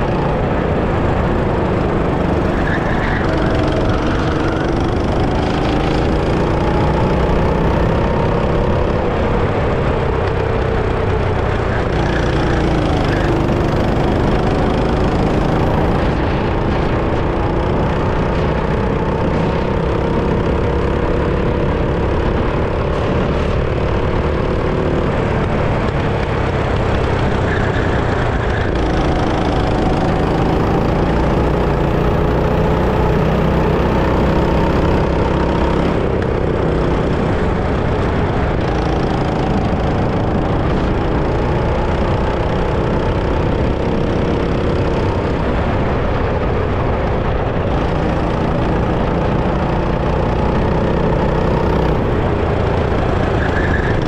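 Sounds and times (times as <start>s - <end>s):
go-kart engine under throttle: 0.0s - 54.0s
steady rush of noise: 0.0s - 54.0s.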